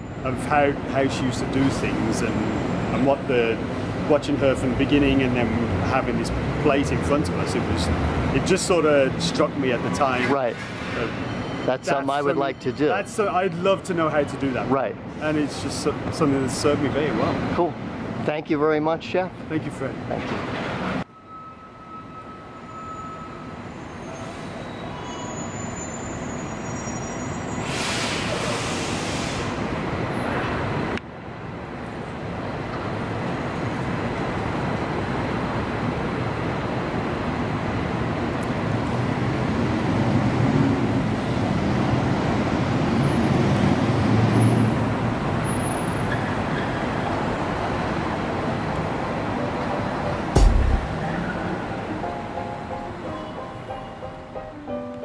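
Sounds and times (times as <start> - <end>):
city traffic hiss and rumble: 0.0 - 55.0.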